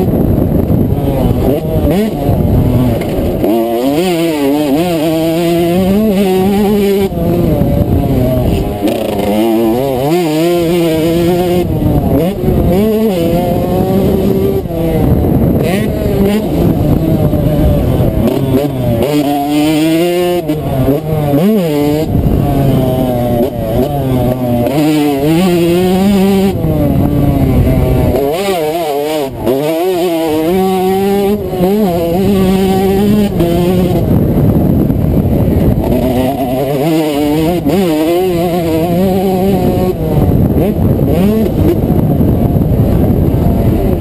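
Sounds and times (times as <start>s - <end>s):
motocross bike engine revving: 0.0s - 44.0s
wind buffeting microphone: 0.0s - 44.0s.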